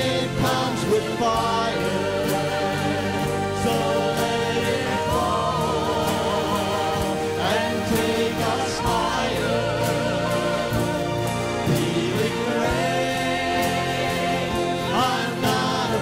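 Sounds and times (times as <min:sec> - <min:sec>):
voices singing together: 0:00.0 - 0:16.0
worship band playing: 0:00.0 - 0:16.0.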